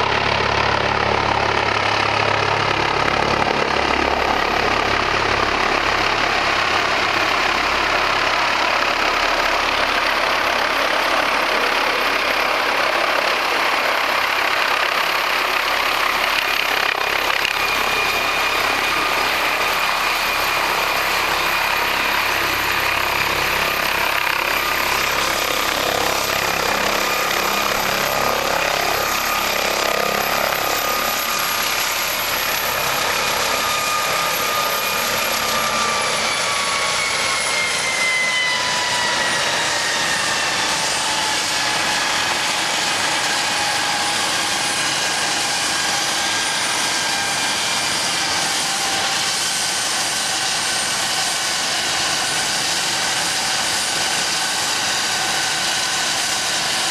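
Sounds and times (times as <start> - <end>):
helicopter rotor turning: 0.0 - 56.9
turbine engine whine: 0.0 - 56.9.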